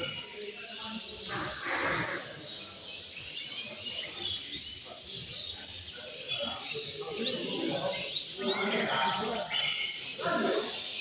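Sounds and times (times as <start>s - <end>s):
background chatter: 0.0s - 11.0s
canaries chirping and trilling: 0.0s - 11.0s.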